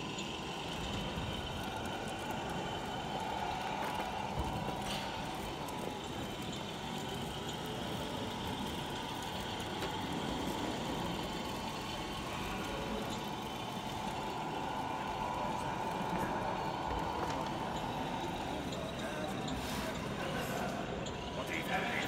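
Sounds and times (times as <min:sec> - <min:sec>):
model trucks engine drone: 0:00.0 - 0:22.0.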